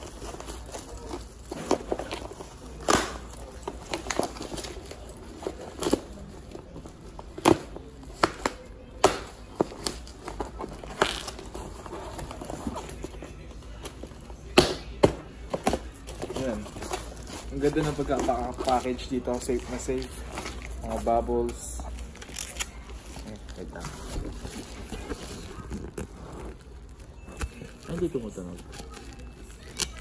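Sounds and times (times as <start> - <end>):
bubble wrap and cardboard crinkling: 0.0 - 30.0.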